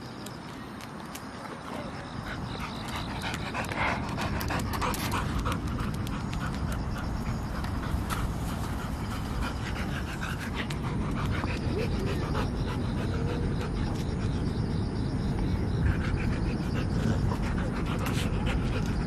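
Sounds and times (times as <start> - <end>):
dog panting: 1.7 - 14.5, 15.8 - 19.0
steady low rumble: 2.0 - 19.0.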